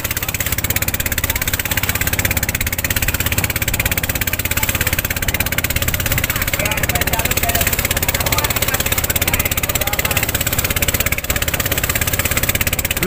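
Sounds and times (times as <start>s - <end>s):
boat engine puttering: 0.0s - 13.0s.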